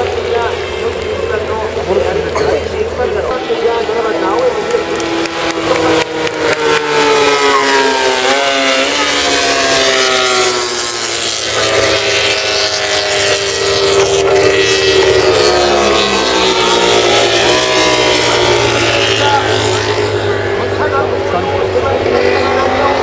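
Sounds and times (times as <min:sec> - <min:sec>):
motorcycle engines at high revs: 0:00.0 - 0:23.0.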